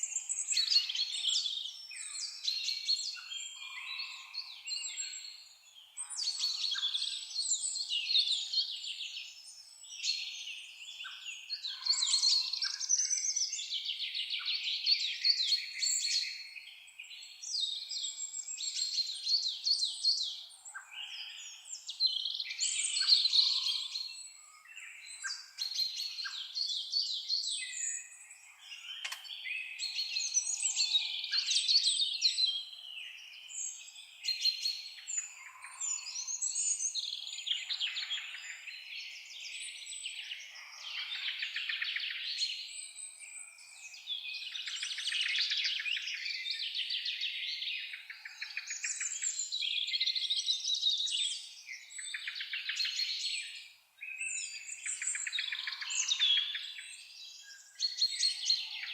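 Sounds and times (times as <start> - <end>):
songbirds singing: 0.0 - 58.9.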